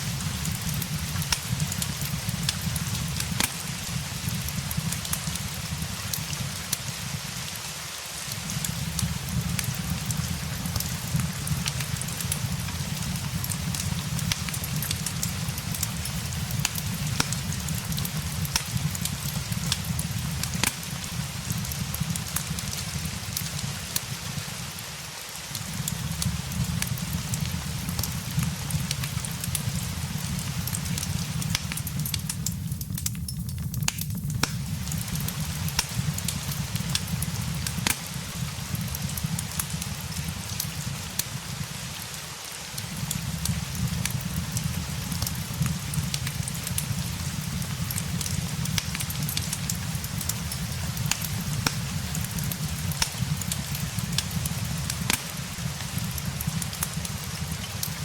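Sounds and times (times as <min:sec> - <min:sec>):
rain hissing: 0:00.0 - 0:58.0
wood fire crackling: 0:00.0 - 0:58.0.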